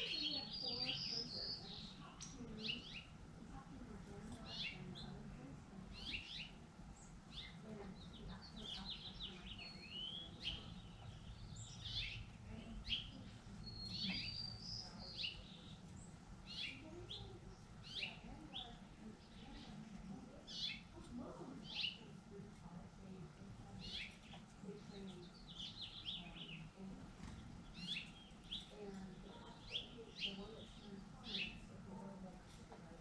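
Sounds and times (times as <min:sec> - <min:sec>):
songbirds chirping and calling: 0:00.0 - 0:33.0.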